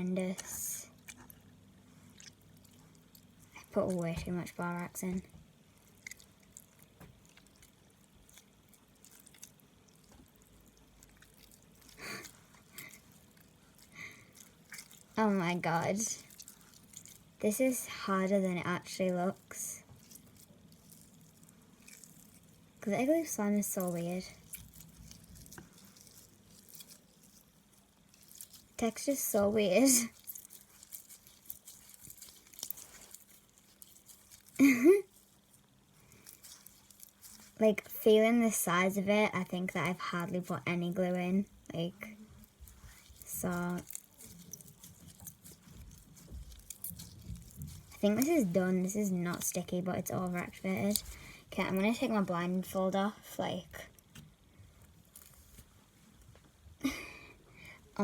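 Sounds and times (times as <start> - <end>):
sticky slime squelching: 0.0 - 58.0.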